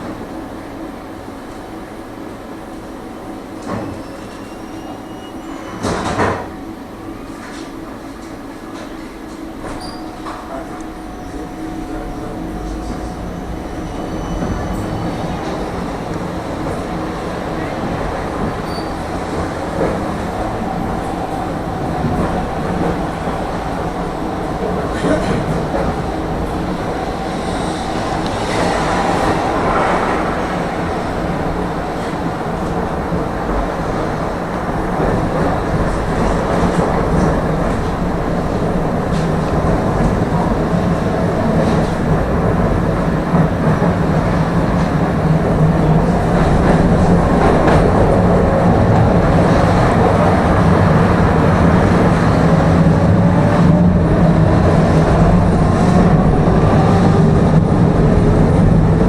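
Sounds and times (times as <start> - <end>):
tram motor whine: 0.0 - 59.0
tram wheels rumbling on rails: 0.0 - 59.0.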